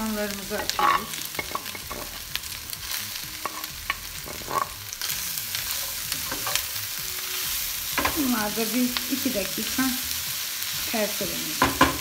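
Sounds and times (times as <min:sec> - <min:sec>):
meat and onions sizzling in pot: 0:00.0 - 0:12.0.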